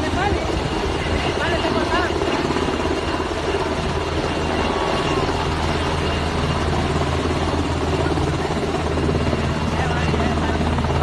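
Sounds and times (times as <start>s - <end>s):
helicopter rotor chop: 0.0s - 11.0s.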